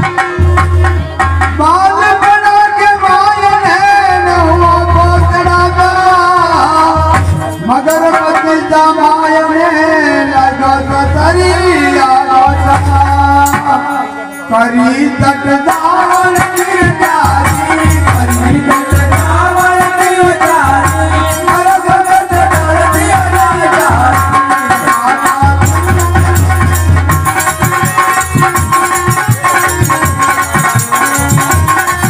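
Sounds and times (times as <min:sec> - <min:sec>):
drumming and rattling percussion: 0:00.0 - 0:09.2, 0:10.9 - 0:32.0
person singing folk song: 0:01.5 - 0:31.0.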